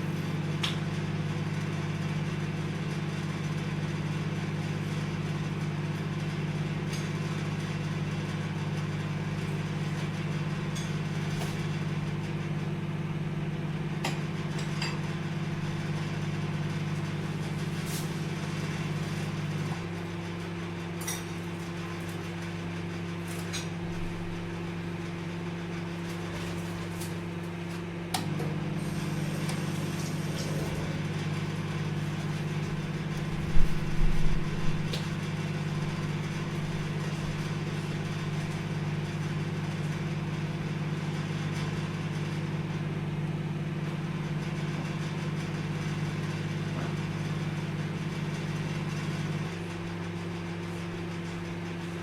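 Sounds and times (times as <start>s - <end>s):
microwave oven humming: 0.0s - 52.0s.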